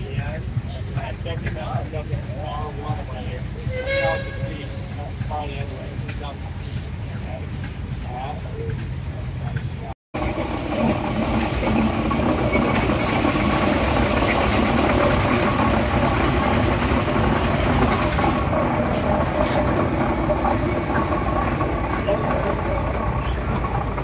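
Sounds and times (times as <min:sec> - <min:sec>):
steam traction engine running: 0:00.0 - 0:24.0.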